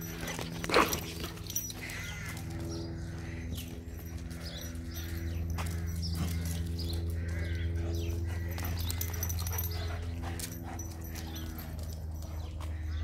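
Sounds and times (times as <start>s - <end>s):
dog paws pattering on concrete: 0.0s - 13.0s
low hum: 0.0s - 13.0s.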